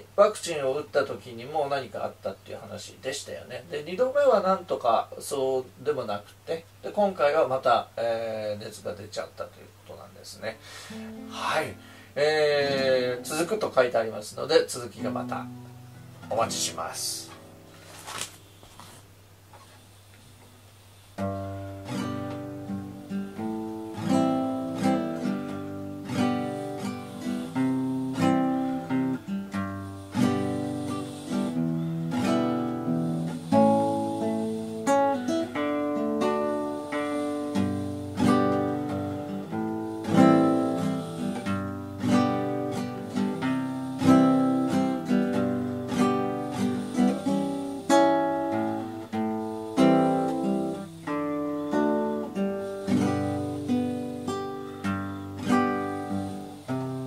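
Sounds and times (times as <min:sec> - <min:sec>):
acoustic guitar music: 0:00.0 - 0:19.9, 0:20.6 - 0:57.0.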